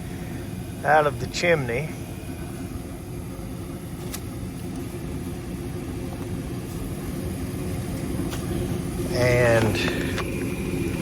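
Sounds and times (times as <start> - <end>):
gas furnace humming: 0.0 - 11.0.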